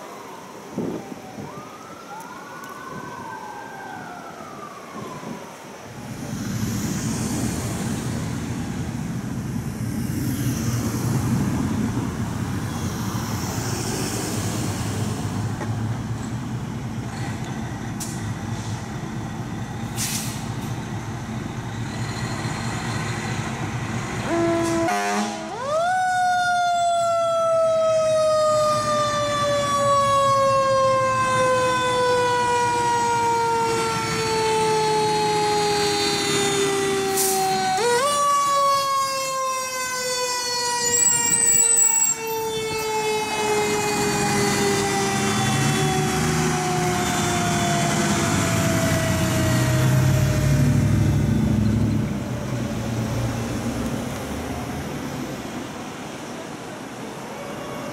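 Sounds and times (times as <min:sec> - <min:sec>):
fire engine siren wailing: 0:00.0 - 0:55.2, 0:56.0 - 0:57.9
fire engine rumble: 0:00.0 - 0:57.9
street traffic: 0:00.0 - 0:57.9.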